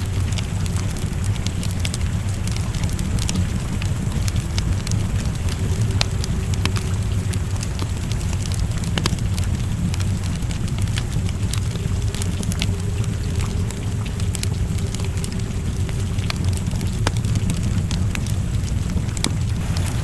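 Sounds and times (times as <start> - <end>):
continuous low rumble: 0.0 - 20.0
steady rain: 0.0 - 20.0
wood fire crackling: 0.0 - 20.0.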